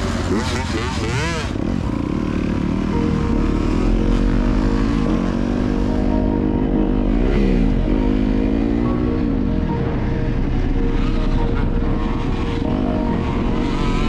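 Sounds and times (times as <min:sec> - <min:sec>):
motorcycle engine revving hard: 0:00.0 - 0:09.8, 0:10.4 - 0:14.0.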